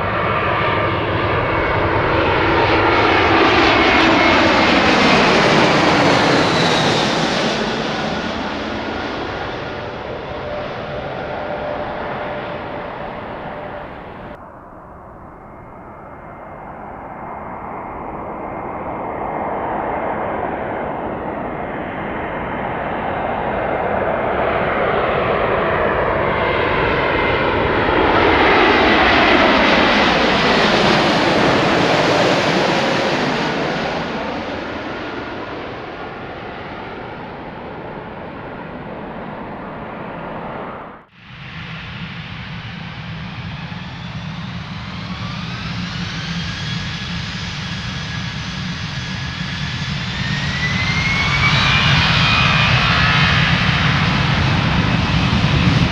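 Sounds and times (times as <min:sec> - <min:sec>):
jet airliner passing by: 0:00.0 - 0:55.9.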